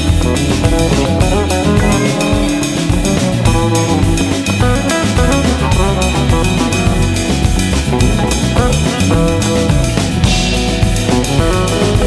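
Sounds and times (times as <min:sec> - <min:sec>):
bass guitar: 0:00.0 - 0:12.0
drum kit beat: 0:00.0 - 0:12.0
guitar: 0:00.0 - 0:12.0.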